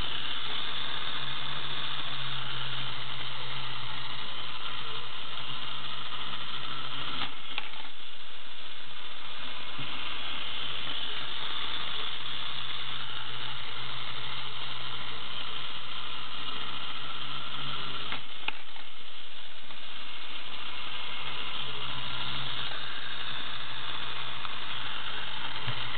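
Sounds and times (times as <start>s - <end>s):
clockwork gears whirring: 0.0s - 25.9s.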